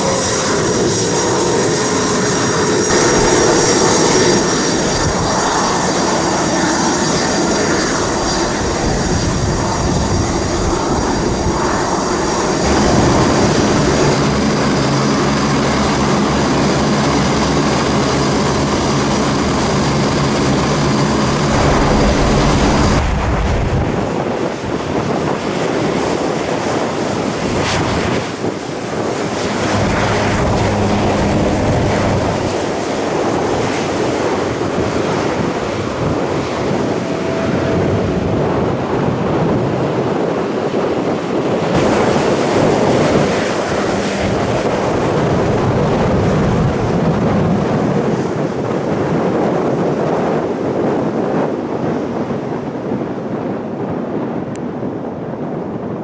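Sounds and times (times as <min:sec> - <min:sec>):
jet engines whining: 0:00.0 - 0:49.5
turboprop engines humming: 0:00.0 - 0:56.0.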